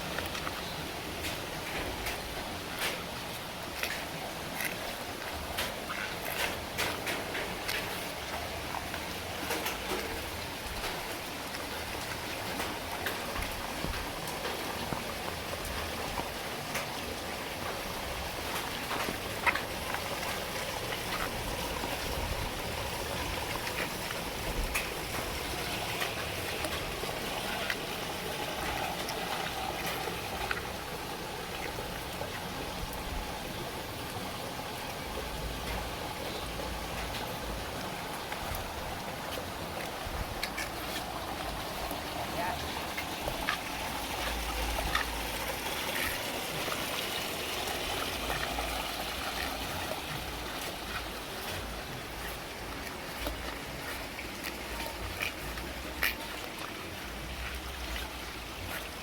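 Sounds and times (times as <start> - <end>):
heavy rain falling: 0.0 - 59.0
raindrops tapping on surfaces: 0.0 - 59.0.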